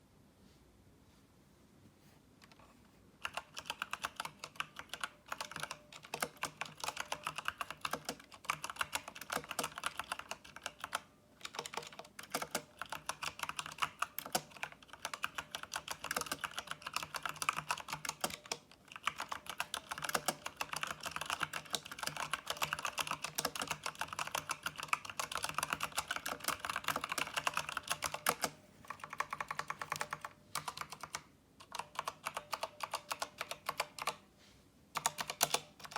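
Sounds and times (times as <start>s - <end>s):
typing on mechanical keyboard: 3.2s - 34.2s, 34.9s - 35.9s.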